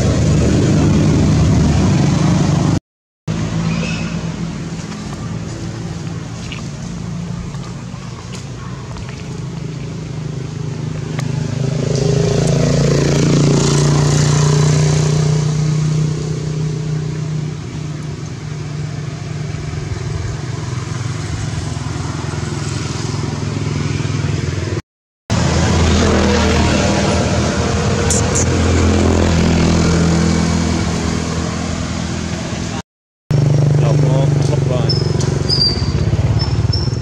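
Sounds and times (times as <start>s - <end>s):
vehicle engine hum: 0.0s - 37.0s.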